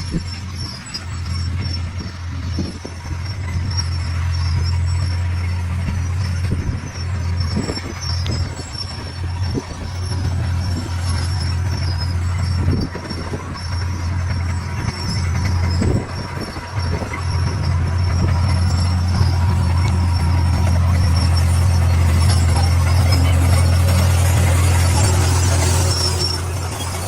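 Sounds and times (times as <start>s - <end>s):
bulldozer diesel engine drone: 0.0s - 27.0s.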